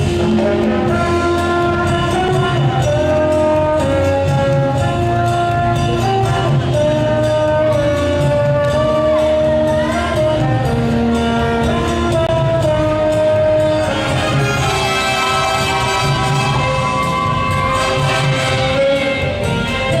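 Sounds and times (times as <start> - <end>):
cha-cha-cha dance music: 0.0 - 20.0.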